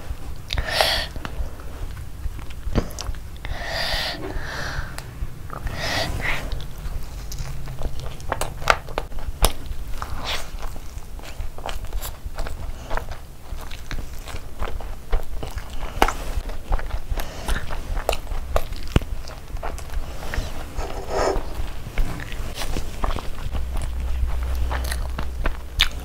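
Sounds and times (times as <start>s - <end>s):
person chewing food wetly: 0.0s - 26.0s.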